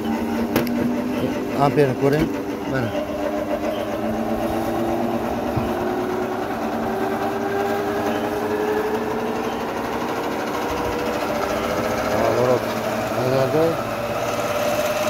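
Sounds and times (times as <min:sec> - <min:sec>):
electric motor whine rising: 0:00.0 - 0:15.0.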